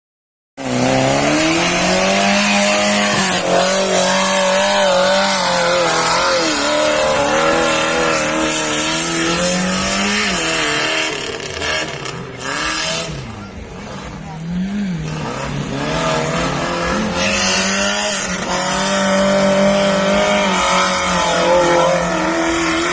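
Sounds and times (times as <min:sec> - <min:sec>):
off-road vehicle engine revving: 0:00.6 - 0:22.9.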